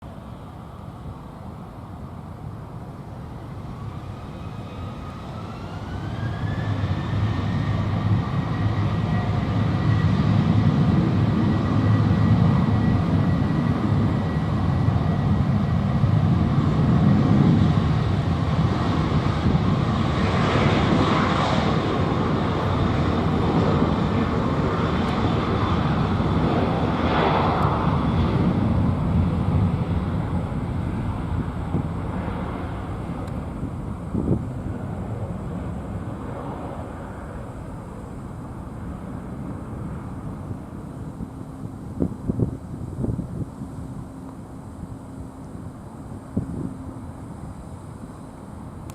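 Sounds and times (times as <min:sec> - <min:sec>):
jet engines roaring: 0:00.1 - 0:48.9.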